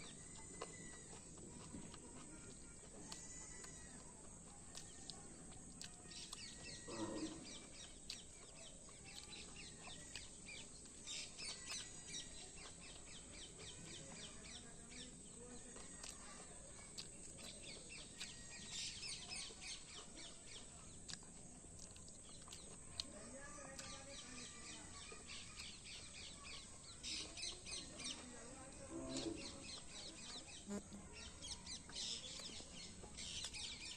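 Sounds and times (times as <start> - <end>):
faint high chirping: 0.0 - 33.9.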